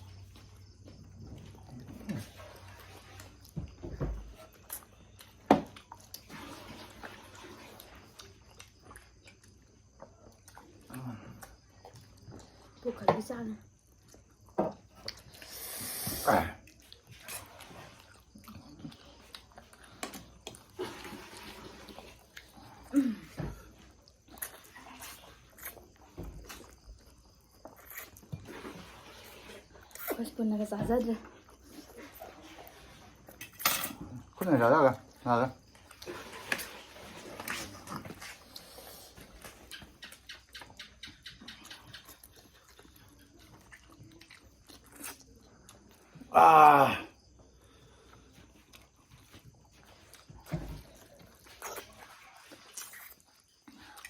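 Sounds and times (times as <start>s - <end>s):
slurping and chewing noodles: 0.0s - 12.9s, 13.8s - 30.5s, 31.2s - 54.0s.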